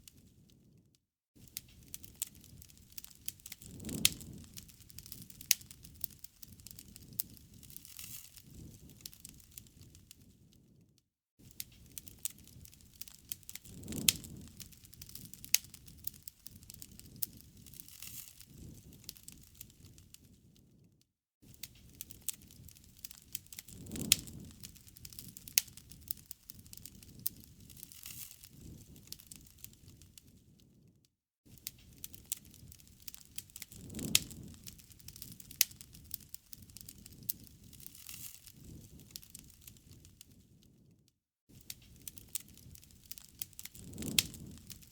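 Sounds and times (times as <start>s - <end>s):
campfire crackling and popping: 1.4s - 10.8s, 11.4s - 20.8s, 21.4s - 30.8s, 31.5s - 40.9s, 41.5s - 44.9s
low rush of flames: 1.4s - 10.8s, 11.4s - 30.9s, 31.5s - 40.9s, 41.5s - 44.9s.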